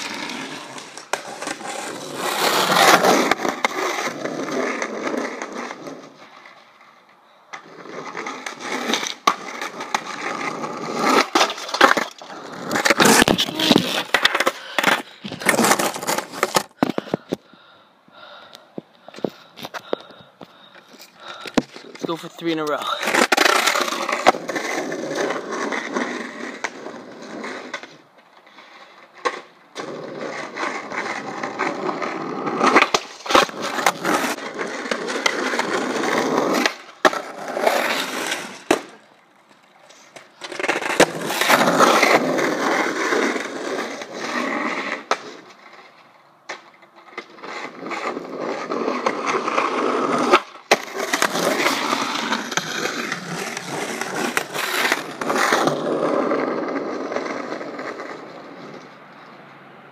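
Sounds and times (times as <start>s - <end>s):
skateboard clacking: 0.0s - 17.4s, 19.1s - 26.9s, 29.0s - 59.4s
skateboard wheels rolling on asphalt: 0.0s - 59.9s.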